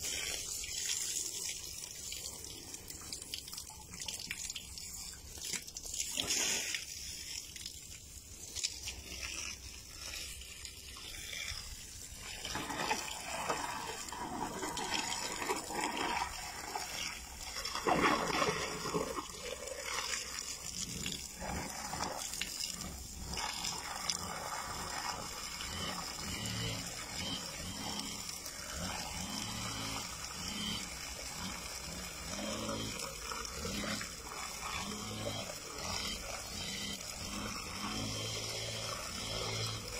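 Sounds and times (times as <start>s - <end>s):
hose water splashing: 0.0s - 39.9s.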